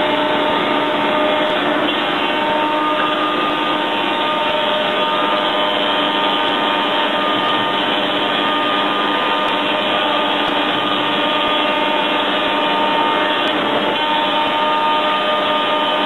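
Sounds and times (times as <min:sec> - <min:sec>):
woodworking machines running: 0:00.0 - 0:16.0.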